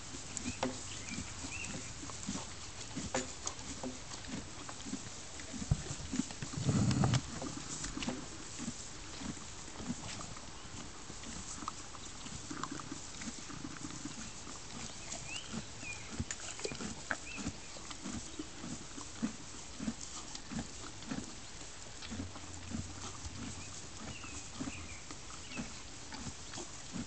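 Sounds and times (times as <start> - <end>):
horse crunching feed: 0.0 - 27.0.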